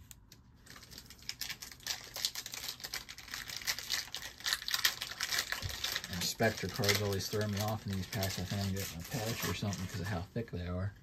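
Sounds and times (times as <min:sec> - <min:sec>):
trading cards clicking and rustling: 0:00.0 - 0:10.0.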